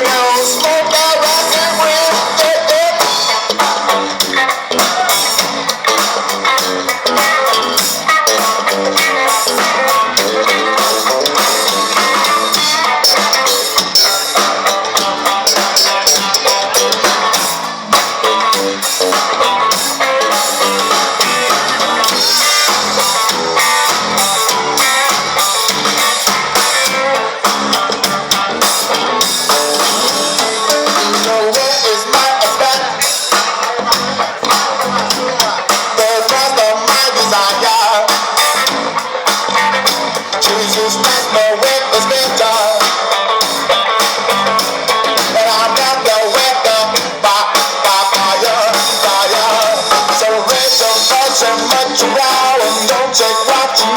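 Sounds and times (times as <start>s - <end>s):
band with guitar and drum kit: 0.0s - 53.9s.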